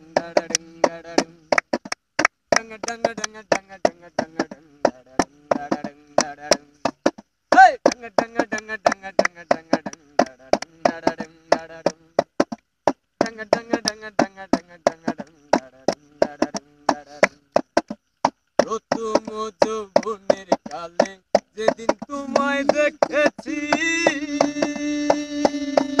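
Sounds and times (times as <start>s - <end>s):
men chanting: 0.0s - 1.5s, 2.6s - 6.8s, 7.5s - 12.2s, 13.2s - 17.4s, 18.6s - 26.0s
sharp percussive knocks: 0.0s - 26.0s.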